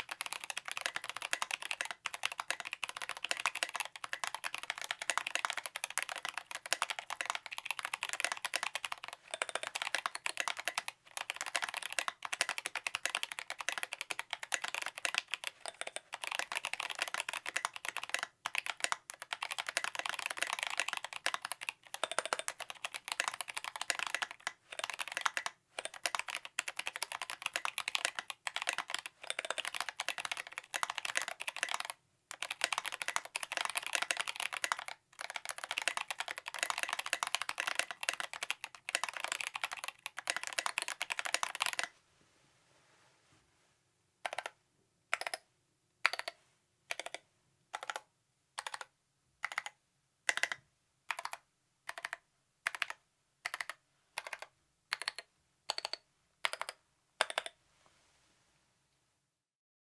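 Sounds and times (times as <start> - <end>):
fast mechanical keyboard typing: 0.0 - 41.9, 44.2 - 45.4, 46.0 - 48.0, 48.6 - 57.5.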